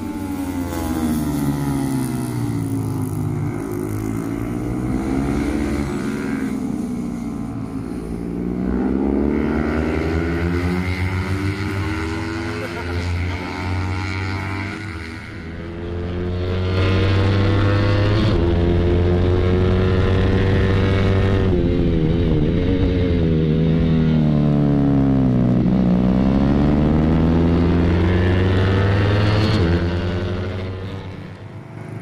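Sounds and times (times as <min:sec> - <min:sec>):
distant motorcycle engines racing: 0:00.0 - 0:32.0
sport bike engine at high revs: 0:00.0 - 0:32.0.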